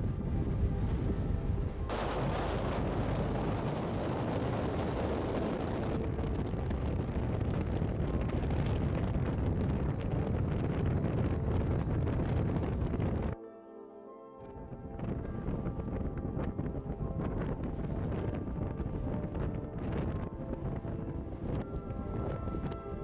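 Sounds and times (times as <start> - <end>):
wind buffeting microphone: 0.0 - 13.4, 14.4 - 23.0.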